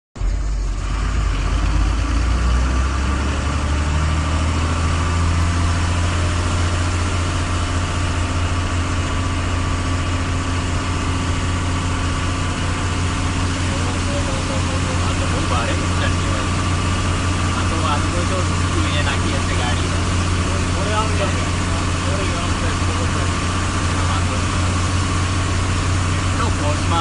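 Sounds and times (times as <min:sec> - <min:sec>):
truck diesel engine humming: 0:00.2 - 0:27.0.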